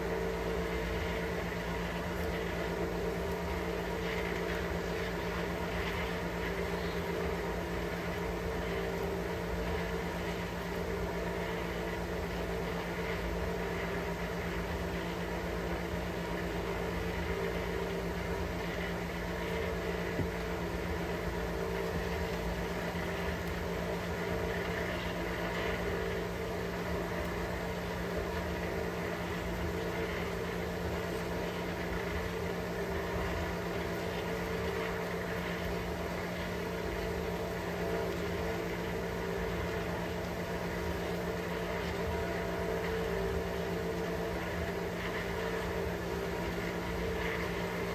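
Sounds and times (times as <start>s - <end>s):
steady machine hum: 0.0s - 47.9s.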